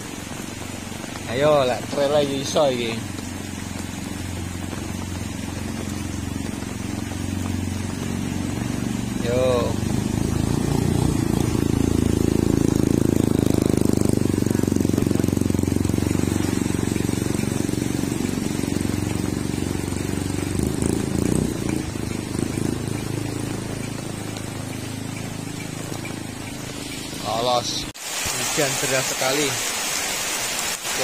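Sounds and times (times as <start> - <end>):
motorcycle engine running: 0.0 - 27.9
heavy rain hissing: 0.0 - 31.0.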